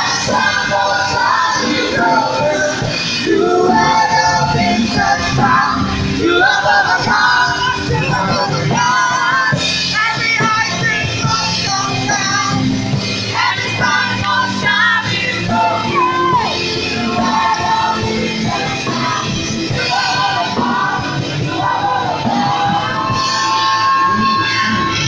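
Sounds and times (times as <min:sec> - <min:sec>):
electric guitar: 0:00.0 - 0:25.0
gospel choir singing: 0:00.0 - 0:25.0
keyboard: 0:00.0 - 0:25.0.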